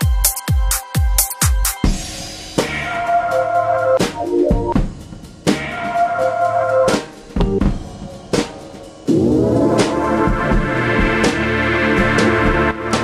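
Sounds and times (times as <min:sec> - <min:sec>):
drum beat: 0:00.0 - 0:02.7, 0:04.0 - 0:06.2, 0:06.9 - 0:13.0.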